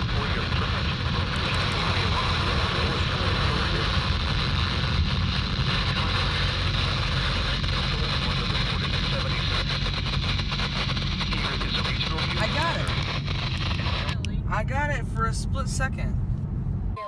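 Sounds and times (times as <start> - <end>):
radio static hiss: 0.0 - 14.2
low hum: 0.0 - 17.0.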